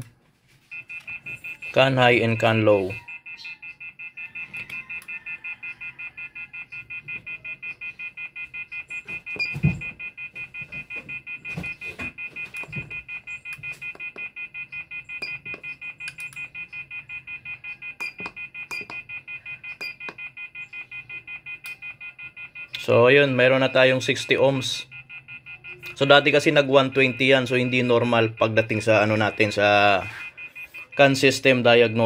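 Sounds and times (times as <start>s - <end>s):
rapid electronic beeping: 0.7s - 32.0s.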